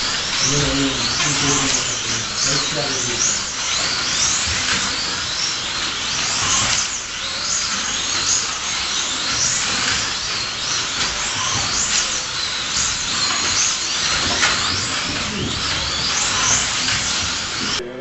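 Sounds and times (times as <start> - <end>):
slot car motors whining: 0.0 - 17.8.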